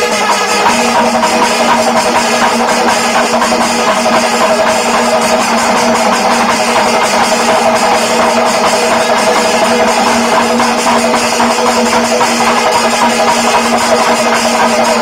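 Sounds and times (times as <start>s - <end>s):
background music with drums: 0.0s - 15.0s
steady held note: 0.0s - 15.0s.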